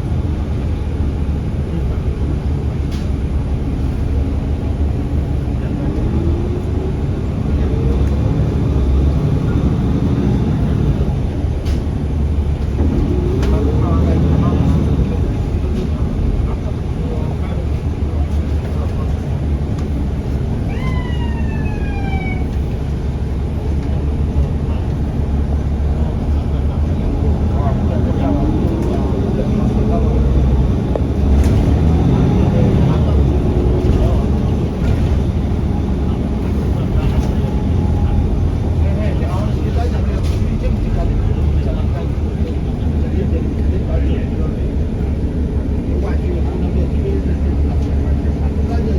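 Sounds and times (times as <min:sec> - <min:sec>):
bus engine and road rumble: 0:00.0 - 0:48.9.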